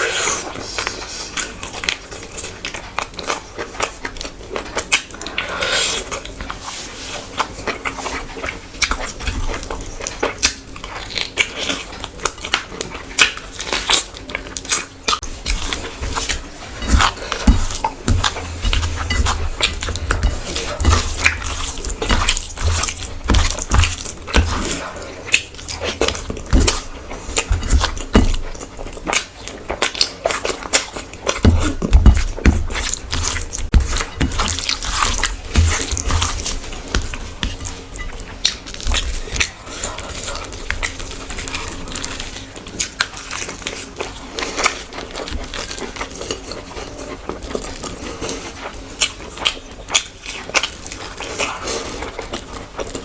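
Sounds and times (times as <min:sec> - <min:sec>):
wet chewing: 0:00.0 - 0:53.0.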